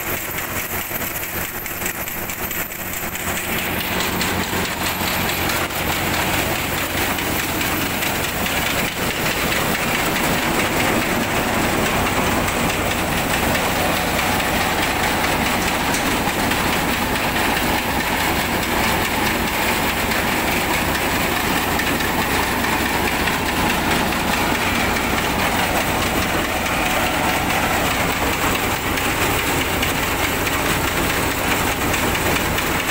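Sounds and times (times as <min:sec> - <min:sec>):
thresher machine running: 0:00.0 - 0:32.9.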